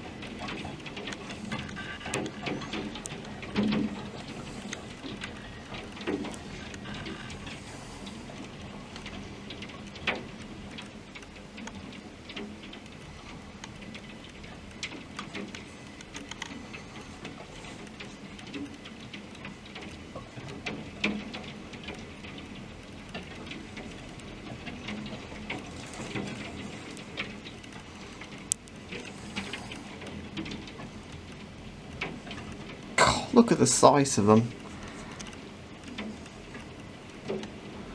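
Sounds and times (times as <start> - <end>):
rain pattering: 0.0 - 37.9.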